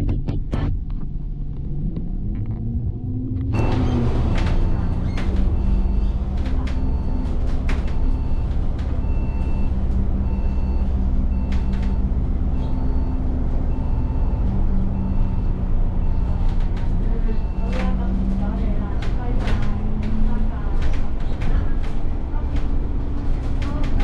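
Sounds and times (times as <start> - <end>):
bus diesel engine rumbling: 0.0 - 24.0
interior rattles and clicks: 0.0 - 24.0.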